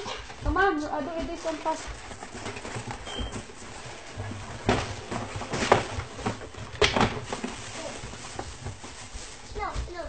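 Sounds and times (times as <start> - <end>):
paper and cardboard rustling: 0.0 - 10.0.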